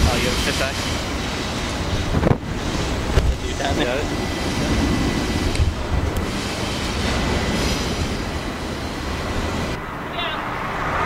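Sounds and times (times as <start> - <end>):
low rumble of passing vehicles: 0.0 - 11.0.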